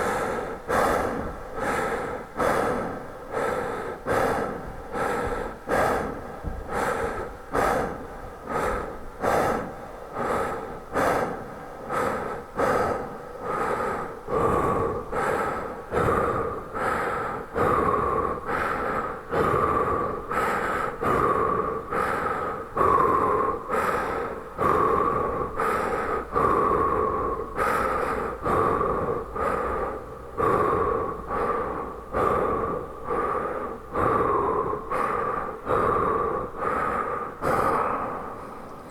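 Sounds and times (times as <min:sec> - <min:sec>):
man breathing heavily: 0:00.0 - 0:38.9.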